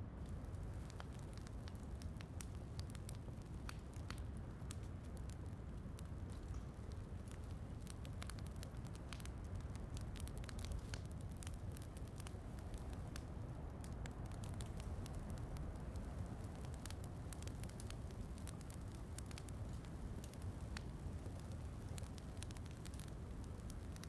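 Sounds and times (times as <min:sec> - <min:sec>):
wood fire crackling and popping: 0:00.1 - 0:24.0.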